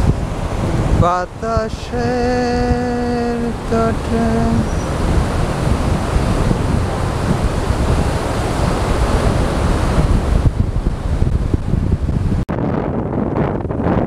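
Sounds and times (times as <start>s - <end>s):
surf washing onto beach: 0.0s - 12.4s
wind buffeting microphone: 0.0s - 14.0s.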